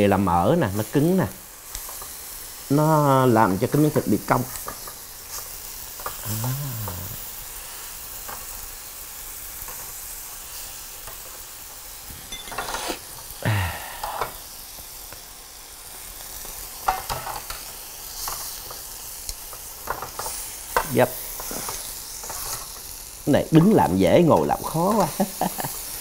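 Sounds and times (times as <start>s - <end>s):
meat sizzling on grill pan: 0.0s - 26.0s.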